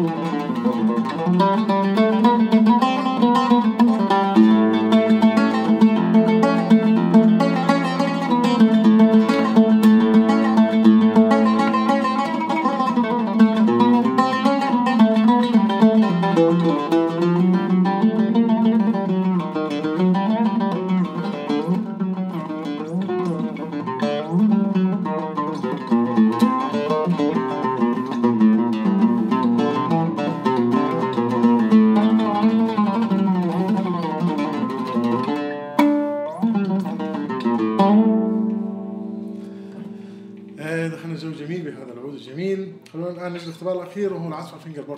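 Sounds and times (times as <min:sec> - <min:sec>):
sharp oud stroke: 0:00.0 - 0:41.3
oud plucked melody: 0:00.0 - 0:44.9.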